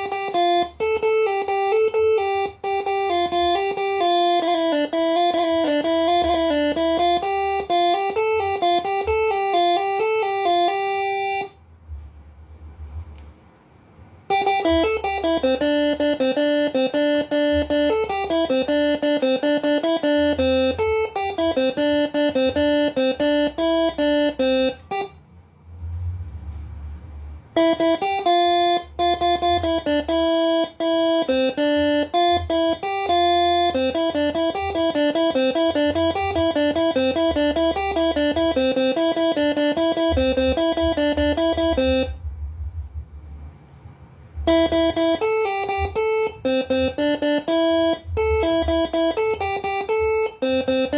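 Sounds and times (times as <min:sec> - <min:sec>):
air horn playing melody: 0:00.0 - 0:13.1, 0:14.0 - 0:50.9.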